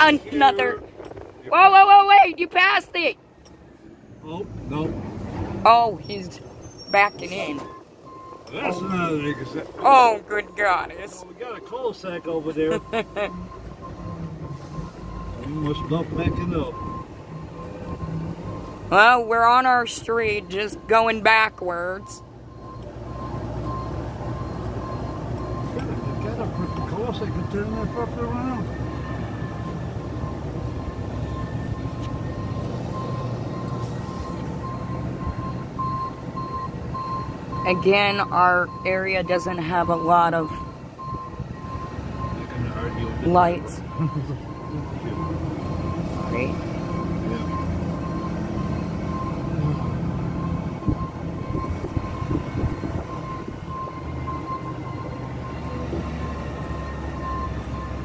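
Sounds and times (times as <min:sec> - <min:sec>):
truck engine rumbling: 0:00.0 - 0:58.0
back-up alarm beeping: 0:05.7 - 0:58.0.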